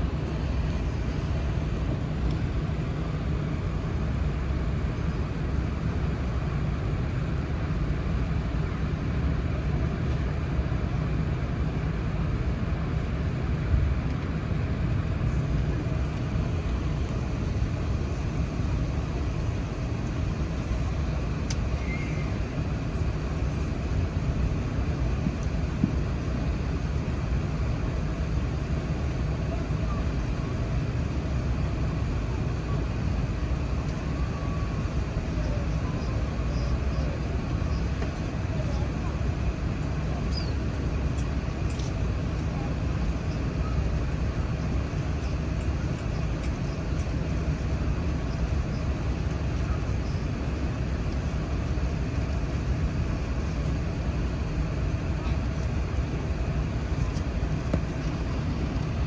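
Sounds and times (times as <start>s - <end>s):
aircraft engines low rumble: 0.0s - 59.0s
cabin air conditioning: 0.0s - 59.0s.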